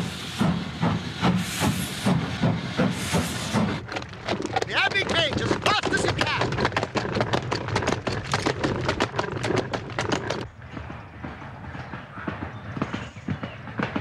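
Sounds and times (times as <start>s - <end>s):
clatter of hooves and wheels: 0.0s - 14.0s.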